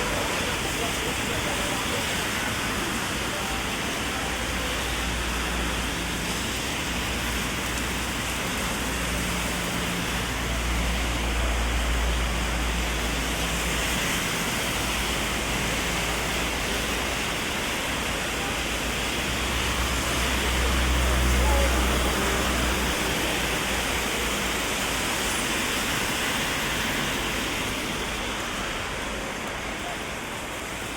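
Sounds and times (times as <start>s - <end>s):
heavy rain on umbrella and street: 0.0s - 30.9s
low rumble of city traffic: 0.0s - 30.9s.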